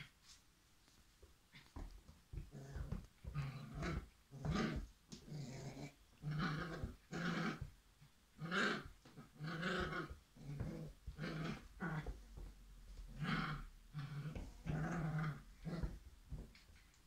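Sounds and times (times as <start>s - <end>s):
puppy growling: 1.5s - 7.7s, 8.4s - 16.7s.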